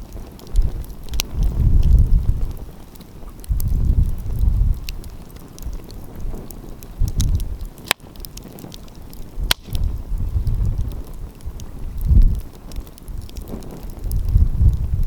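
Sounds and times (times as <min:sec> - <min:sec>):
wind rumbling on microphone: 0:00.0 - 0:15.0
wood fire crackling and popping: 0:00.0 - 0:15.0.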